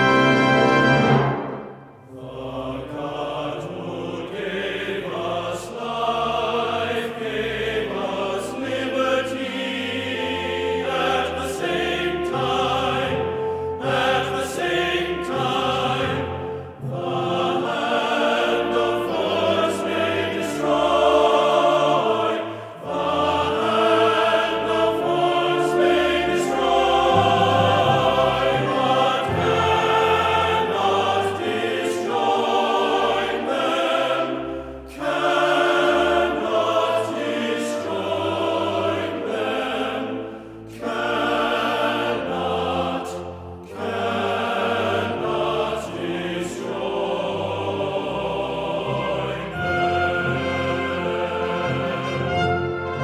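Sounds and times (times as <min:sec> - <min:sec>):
choir singing sustained chords: 0:00.0 - 0:53.0.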